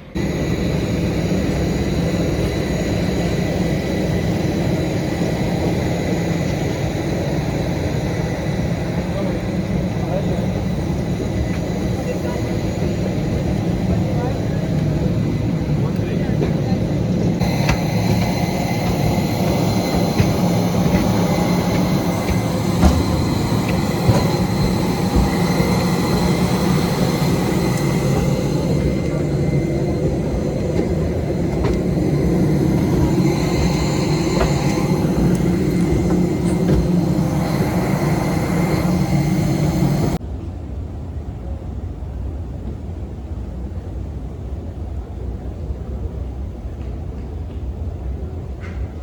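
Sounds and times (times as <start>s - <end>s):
moving vehicle rumble: 0.0s - 40.2s
thin steady whine: 0.0s - 40.2s
airliner engine drone: 0.0s - 49.0s.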